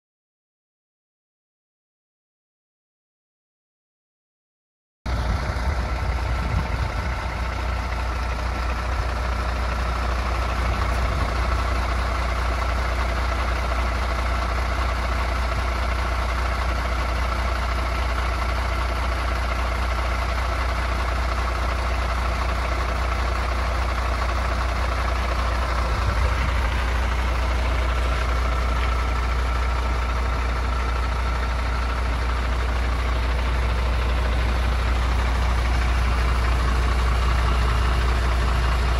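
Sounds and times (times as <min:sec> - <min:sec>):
diesel engine idling: 0:05.1 - 0:38.9.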